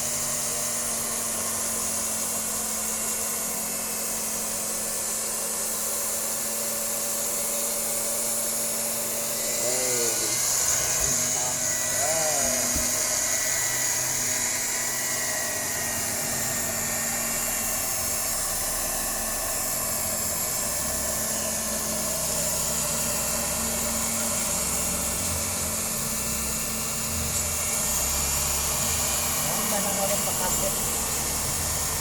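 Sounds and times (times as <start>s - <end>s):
cloth-cutting machine motor whining: 0.0s - 32.0s.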